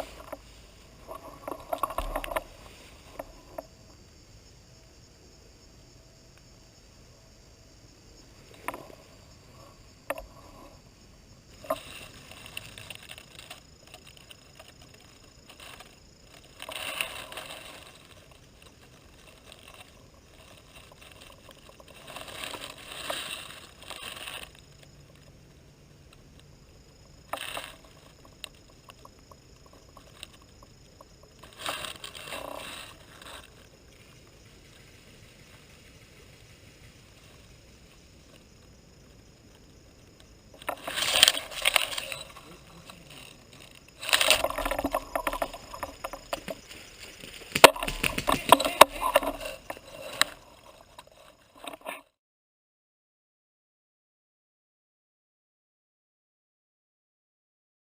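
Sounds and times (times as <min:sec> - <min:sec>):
rustling and scraping: 0:00.0 - 0:04.0, 0:08.3 - 0:52.2.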